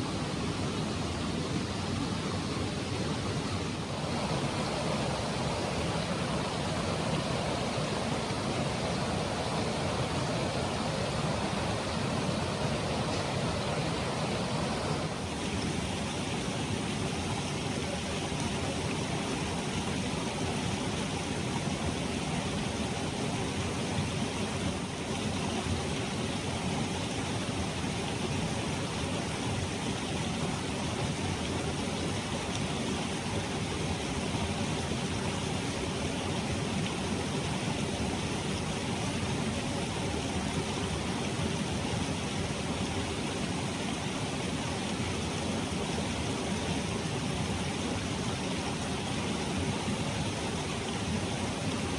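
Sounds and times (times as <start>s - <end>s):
mountain stream flowing: 0.0s - 51.9s.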